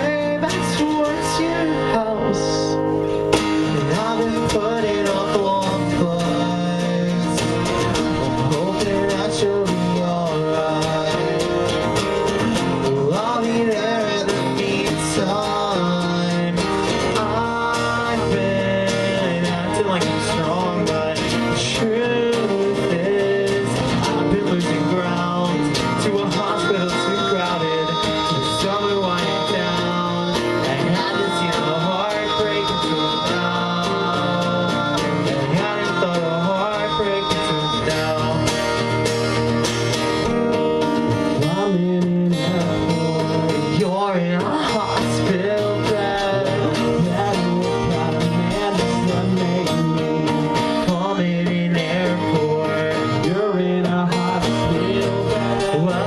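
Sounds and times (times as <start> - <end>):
person singing: 0.0 - 39.6, 41.2 - 56.0
strummed guitar: 0.0 - 56.0.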